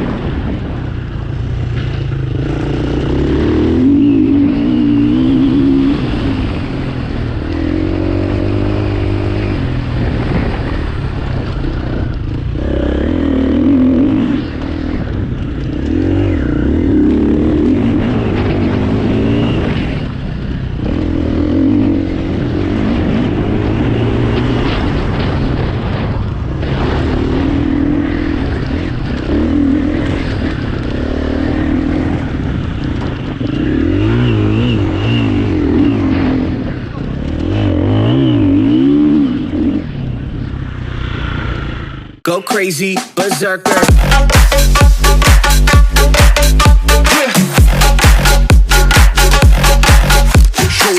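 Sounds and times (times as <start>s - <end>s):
motorcycle engine revving: 0.0s - 42.2s, 43.9s - 50.9s.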